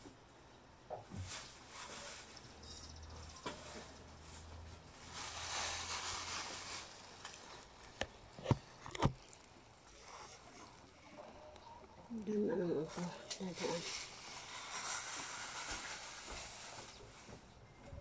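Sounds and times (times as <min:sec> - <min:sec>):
leaves and vines rustling: 0:01.1 - 0:18.0.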